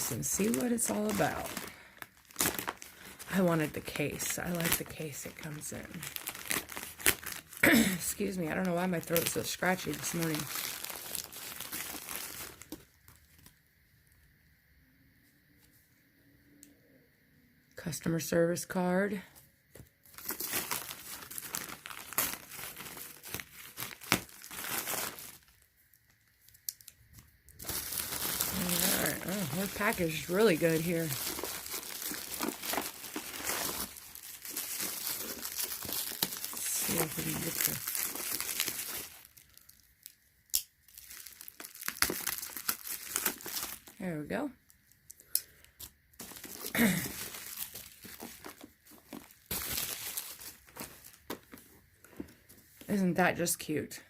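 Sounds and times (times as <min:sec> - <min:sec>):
packaging crinkling and rustling: 0:00.0 - 0:13.6, 0:19.7 - 0:52.9.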